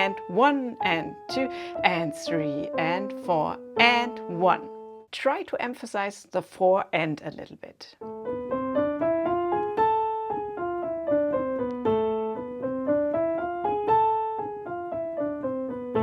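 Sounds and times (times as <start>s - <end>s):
piano playing a scale: 0.0s - 5.1s, 8.0s - 16.0s.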